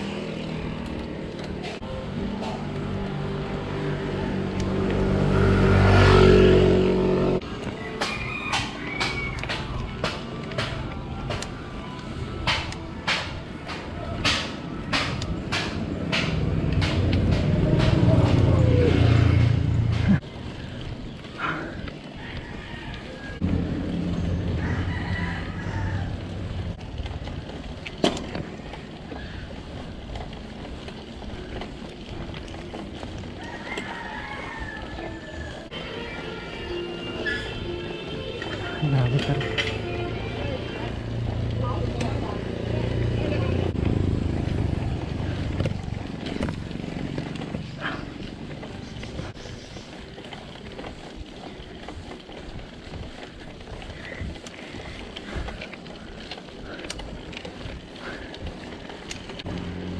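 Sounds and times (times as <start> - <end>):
light bike rattles: 0.0 - 59.9
tyre rumble on rough road: 0.0 - 59.9
wind: 0.0 - 59.9.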